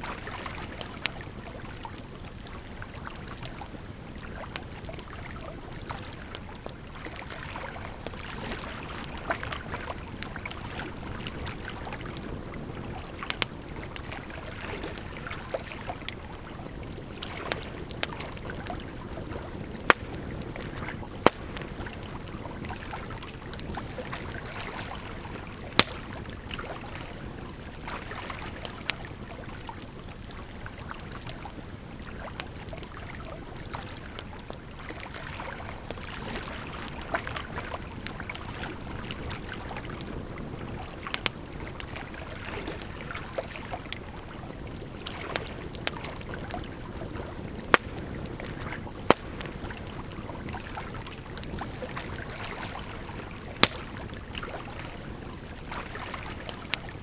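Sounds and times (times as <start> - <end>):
firewood crackling: 0.2 - 35.0, 35.7 - 57.0.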